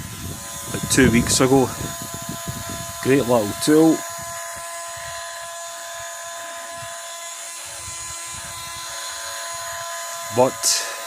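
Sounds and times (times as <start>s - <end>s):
multi-tool motor whining: 0.0s - 11.0s.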